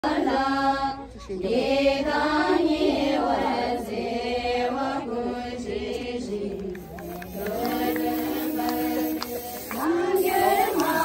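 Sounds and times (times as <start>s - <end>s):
group chanting a prayer: 0.0s - 11.0s.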